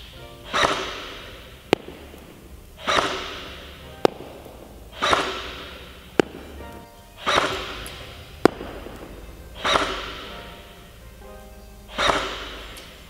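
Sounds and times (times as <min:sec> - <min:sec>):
pellets striking target: 0:00.0 - 0:13.0
airsoft gun single shots: 0:00.5 - 0:10.6, 0:11.9 - 0:13.0.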